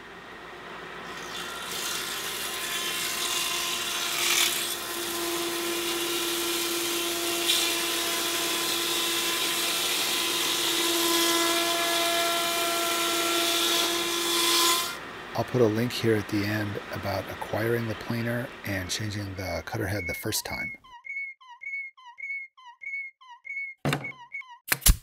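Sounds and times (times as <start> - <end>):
thickness planer humming: 0.0 - 21.0.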